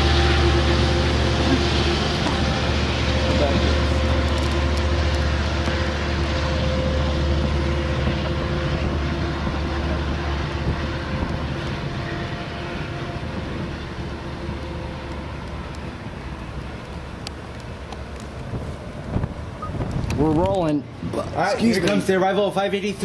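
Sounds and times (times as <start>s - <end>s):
diesel locomotive engine humming: 0.0s - 23.0s.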